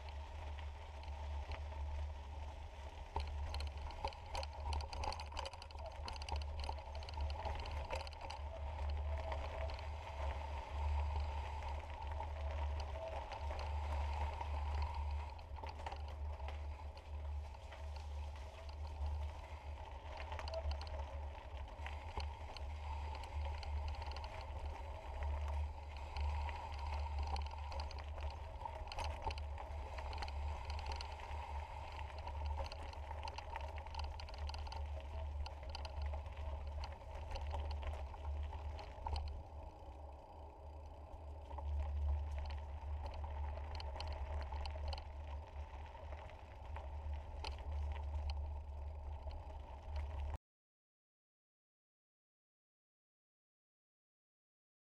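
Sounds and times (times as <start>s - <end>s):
bike rolling on gravel: 0.0s - 50.4s
small clicks and rattles: 0.0s - 50.4s.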